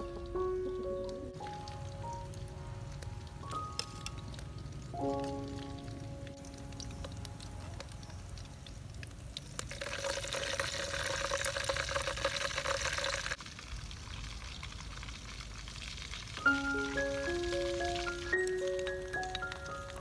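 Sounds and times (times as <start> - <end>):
hot oil sizzling in a wok: 1.4 - 20.0.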